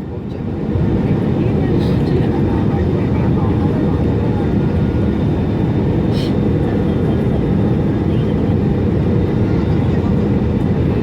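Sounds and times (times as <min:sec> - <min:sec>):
aircraft cabin engine roar: 0:00.0 - 0:11.0.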